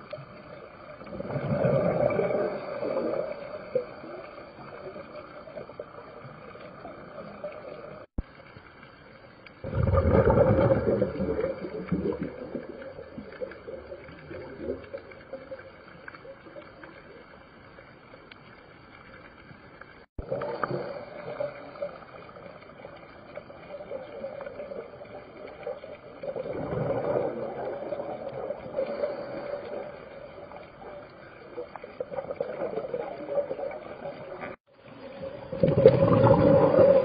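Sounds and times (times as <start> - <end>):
diver's exhaled bubbles gurgling: 0.0 - 8.2, 9.6 - 16.7, 20.2 - 37.0
steady underwater hum: 0.0 - 37.0.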